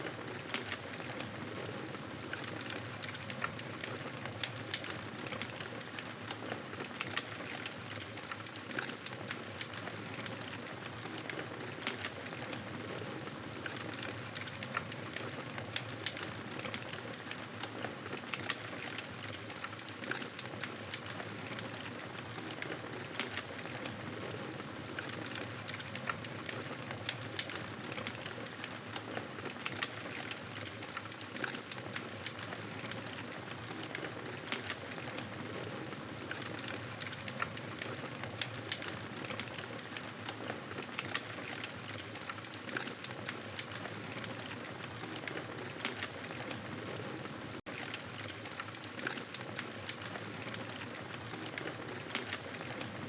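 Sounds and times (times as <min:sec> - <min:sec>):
campfire crackling: 0:00.1 - 0:53.0.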